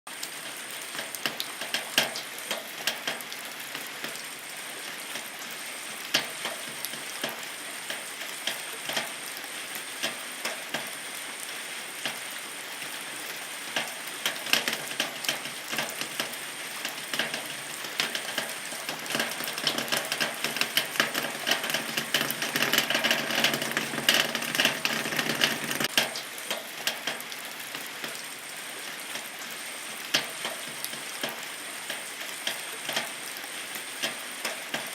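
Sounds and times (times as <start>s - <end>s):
rain on a metal roof: 0.1s - 34.9s.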